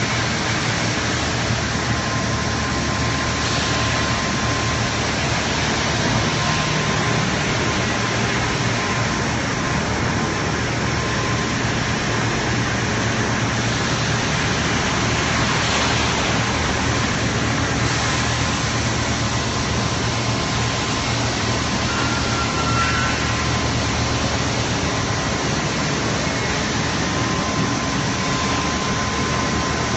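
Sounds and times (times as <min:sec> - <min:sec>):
industrial machinery hiss: 0:00.0 - 0:29.9.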